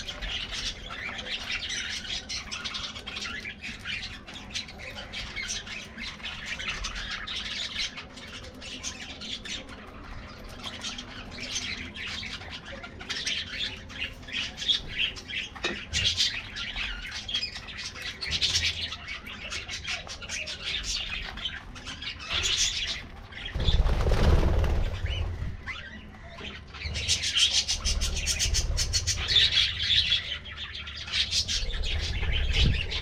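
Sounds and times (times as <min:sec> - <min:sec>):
budgerigars chattering and squawking: 0:00.0 - 0:33.0.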